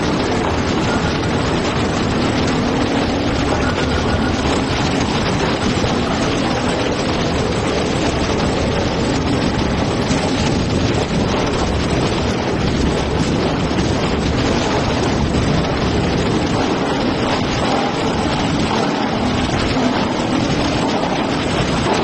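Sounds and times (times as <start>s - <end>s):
loud machinery noise: 0.0s - 22.0s.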